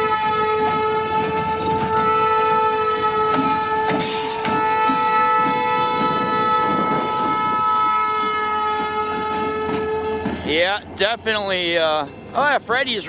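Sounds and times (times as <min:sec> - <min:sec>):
locomotive air horn blast: 0:00.0 - 0:10.8
passing train rumble: 0:00.0 - 0:13.0.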